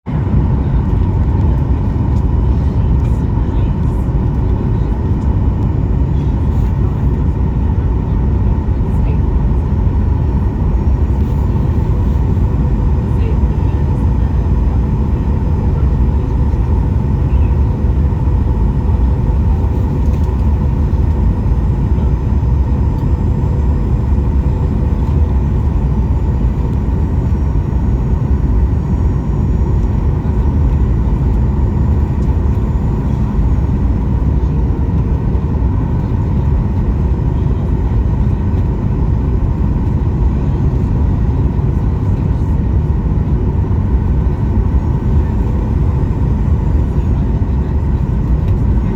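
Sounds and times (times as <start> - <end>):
airplane cabin rumble: 0.0 - 48.9
faint steady engine tones: 0.1 - 48.9.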